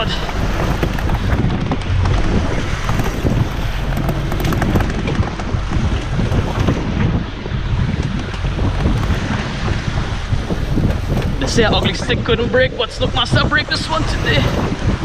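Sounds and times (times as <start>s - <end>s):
boat rumble: 0.0s - 15.0s
rough water slapping: 0.0s - 15.0s
wind buffeting microphone: 0.0s - 15.0s.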